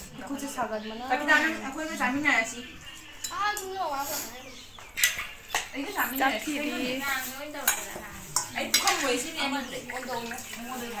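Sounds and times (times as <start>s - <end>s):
people talking: 0.0s - 4.7s, 5.6s - 11.0s
metal bowls and spoons clinking: 0.1s - 4.0s, 4.8s - 11.0s.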